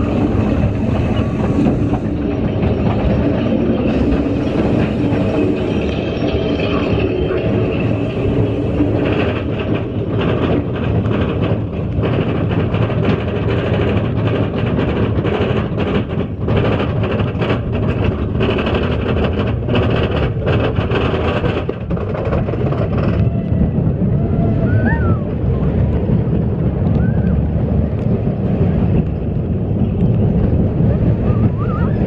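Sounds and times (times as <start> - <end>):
roller coaster rumbling: 0.0 - 32.0
wheels clattering on rails: 0.0 - 32.0.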